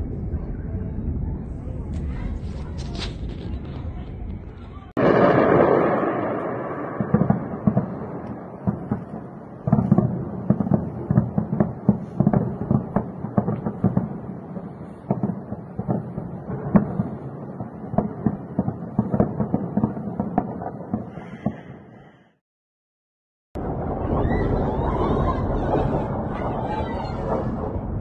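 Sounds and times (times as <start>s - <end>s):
explosions booming: 0.0s - 21.8s, 23.6s - 28.0s.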